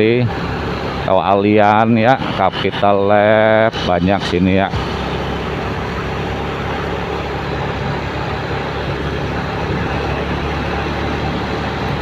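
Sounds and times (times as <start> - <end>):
motorcycle engine: 0.0 - 12.0.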